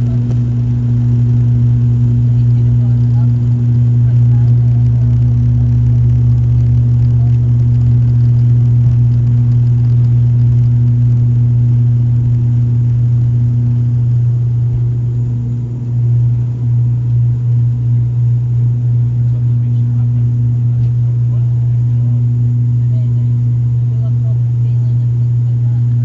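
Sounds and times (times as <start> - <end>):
propeller engines droning in cabin: 0.0 - 26.0.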